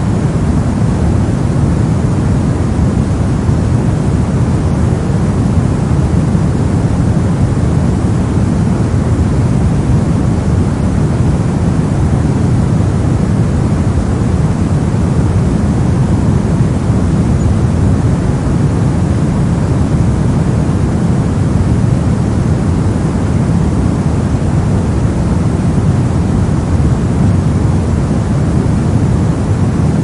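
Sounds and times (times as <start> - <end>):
brown noise: 0.0 - 30.0.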